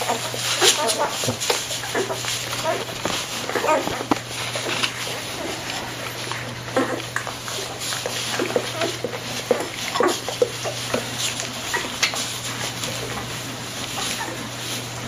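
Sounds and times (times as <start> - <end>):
puppies squeaking and grunting: 0.0 - 15.0
steady low hum: 0.0 - 15.0.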